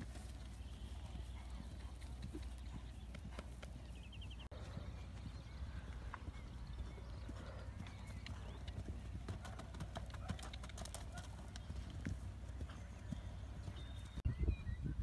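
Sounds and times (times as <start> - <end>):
pony hoofbeats on turf: 0.0 - 14.2
sharp hoof clicks: 0.0 - 14.2.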